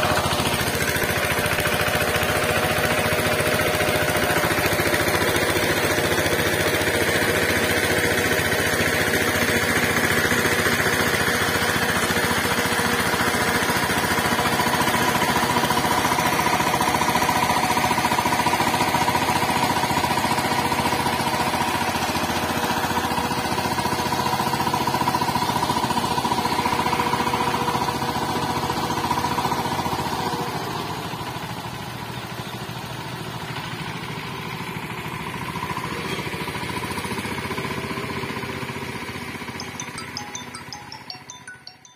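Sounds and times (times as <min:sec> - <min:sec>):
power tiller engine running: 0:00.0 - 0:40.8.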